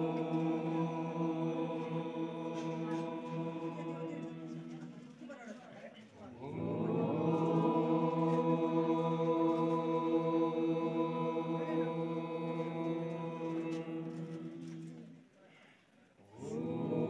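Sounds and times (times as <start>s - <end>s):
person chanting long note: 0.0s - 5.2s, 6.4s - 15.2s.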